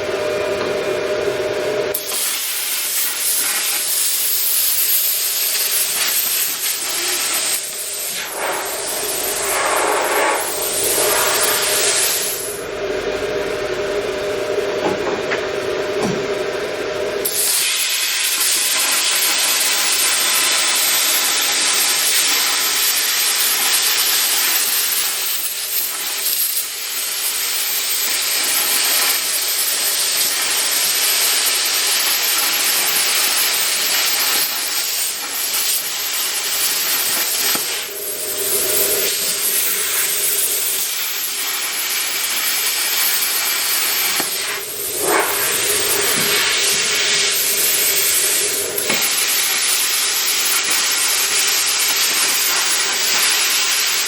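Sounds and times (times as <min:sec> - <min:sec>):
plasma cutter hissing: 0:01.9 - 0:12.8, 0:17.2 - 0:54.0.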